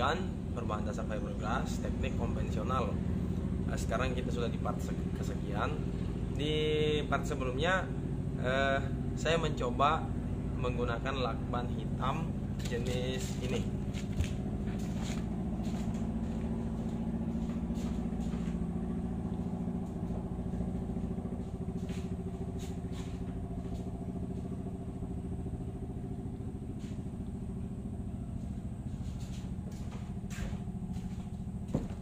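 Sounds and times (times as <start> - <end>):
motor idling hum: 0.0 - 32.0.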